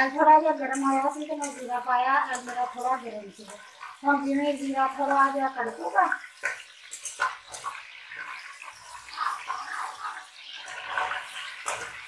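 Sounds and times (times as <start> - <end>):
metal spatula scraping: 0.0 - 12.0
seeds sizzling in hot oil: 0.0 - 12.0.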